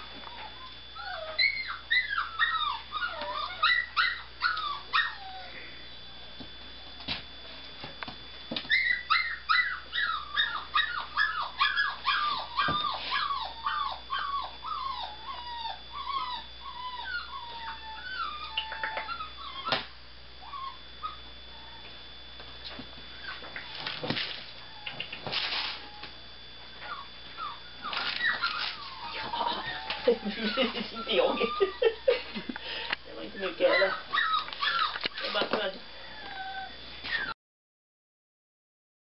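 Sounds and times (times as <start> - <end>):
puppy whining: 0.0 - 6.3, 8.6 - 22.0, 23.1 - 26.2, 26.8 - 37.4.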